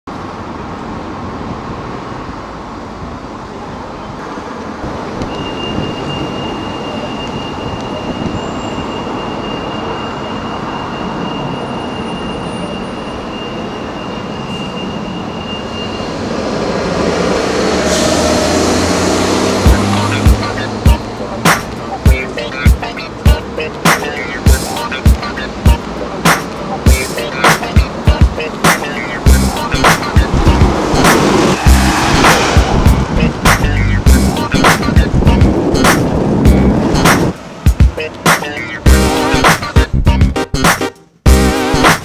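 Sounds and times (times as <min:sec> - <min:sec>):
city traffic rumble: 0:00.0 - 0:42.0
tram wheels squealing: 0:05.0 - 0:39.8.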